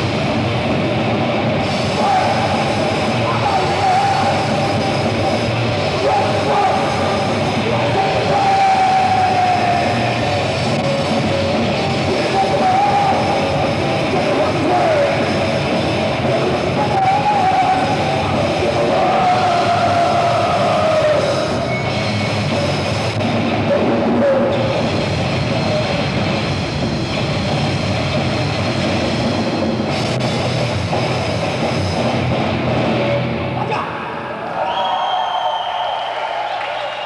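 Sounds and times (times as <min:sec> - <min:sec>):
heavy metal band playing live: 0:00.0 - 0:34.2.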